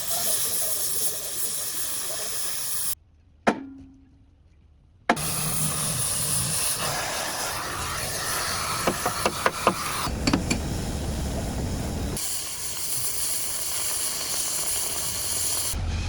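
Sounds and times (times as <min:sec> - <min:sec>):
steady hiss: 0:00.0 - 0:03.0, 0:05.2 - 0:15.8.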